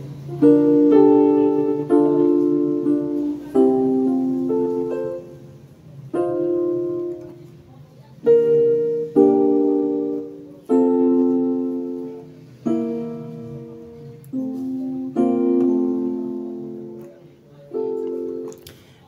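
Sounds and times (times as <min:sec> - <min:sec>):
piano chords ringing: 0:00.0 - 0:18.6.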